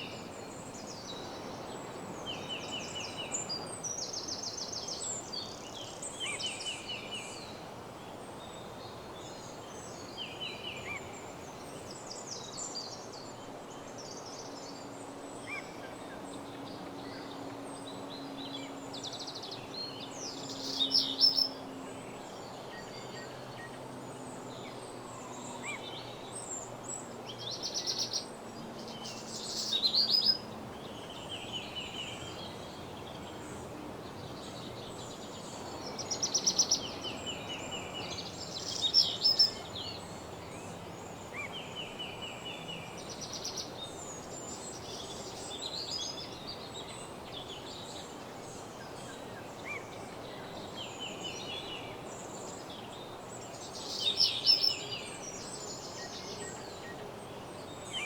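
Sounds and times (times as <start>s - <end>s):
songbirds trilling and chirping: 0.0s - 58.0s
steady background hiss: 0.0s - 58.0s.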